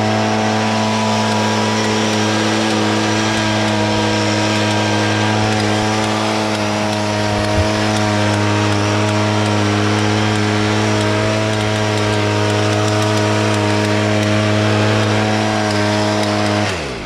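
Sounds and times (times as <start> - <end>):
engine running and spinning down: 0.0 - 17.0.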